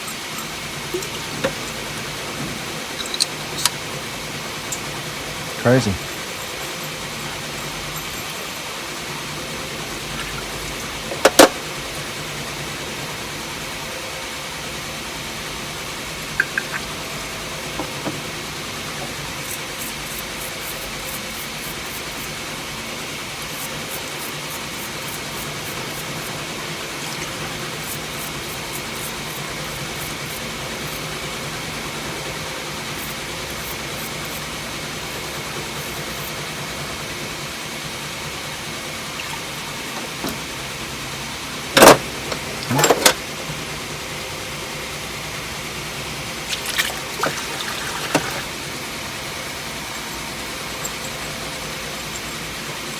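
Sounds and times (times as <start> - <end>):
mechanical background noise: 0.0 - 52.9.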